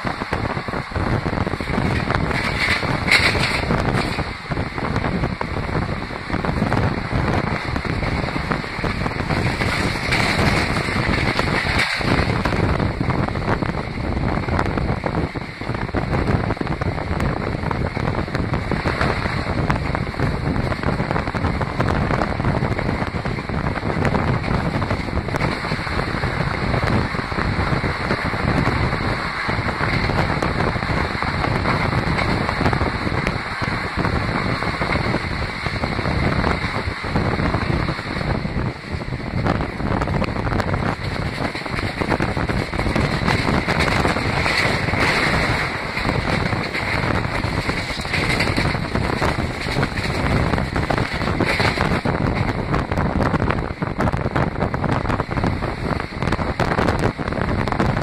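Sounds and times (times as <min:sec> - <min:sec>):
train running at speed: 0:00.0 - 0:58.0
wind on microphone: 0:00.0 - 0:58.0.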